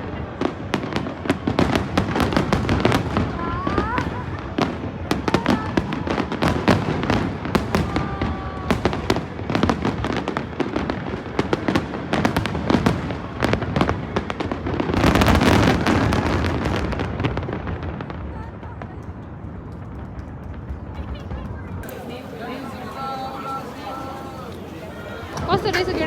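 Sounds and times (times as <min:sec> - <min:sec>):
fireworks cracking and popping: 0:00.0 - 0:22.7.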